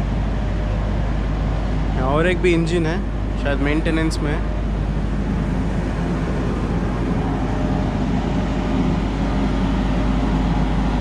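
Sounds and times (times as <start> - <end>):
steam locomotive rumbling and hissing: 0.0 - 11.0.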